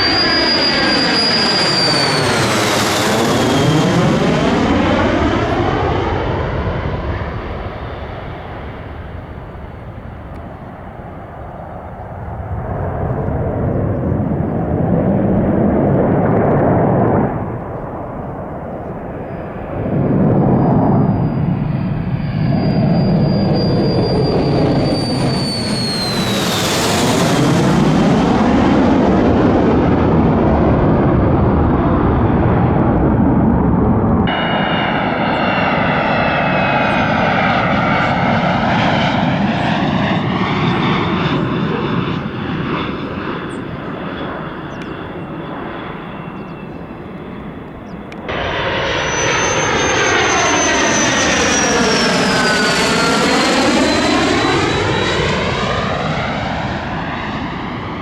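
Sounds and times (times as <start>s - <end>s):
fighter jet flying past: 0.0s - 58.0s.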